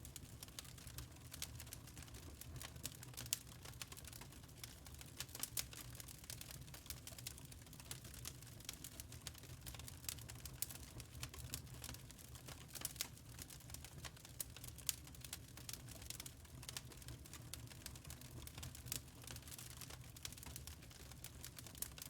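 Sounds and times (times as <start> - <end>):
low fire rumble: 0.0 - 22.0
wood fire crackling: 0.0 - 22.0.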